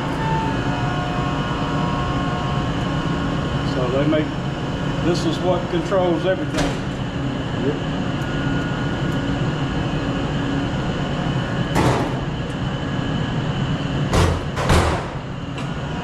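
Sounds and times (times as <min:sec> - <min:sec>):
machine room hum and rush: 0:00.0 - 0:16.0.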